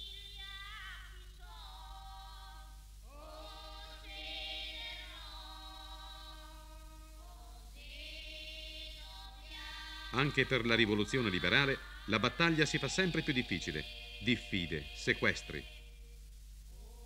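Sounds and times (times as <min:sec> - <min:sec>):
choir-like background music: 0:00.1 - 0:16.0.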